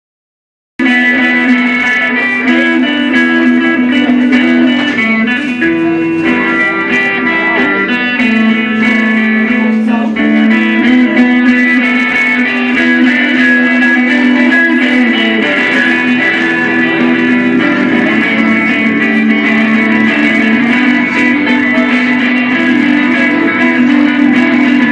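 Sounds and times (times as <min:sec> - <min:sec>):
guitar playing: 0:00.8 - 0:24.9.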